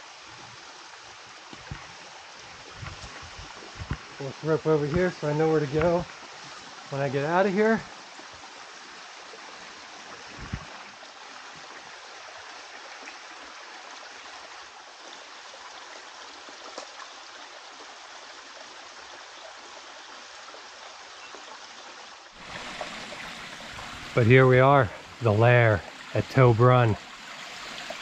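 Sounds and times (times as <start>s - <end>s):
water rushing over stones: 0.0s - 20.7s, 22.3s - 28.0s.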